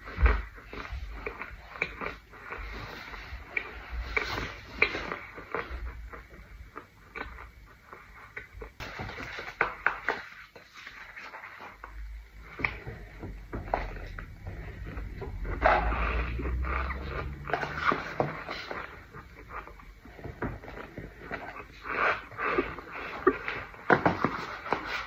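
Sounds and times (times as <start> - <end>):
chewing and crunching powder: 0.0 - 25.0.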